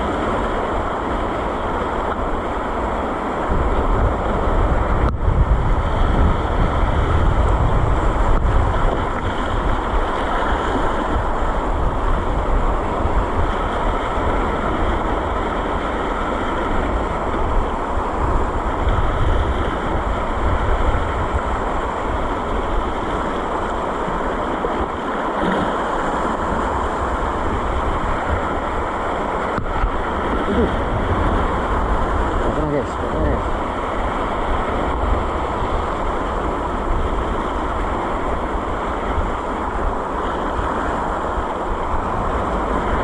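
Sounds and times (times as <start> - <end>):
sea waves on shore: 0.0 - 43.0
wind buffeting microphone: 0.0 - 43.0.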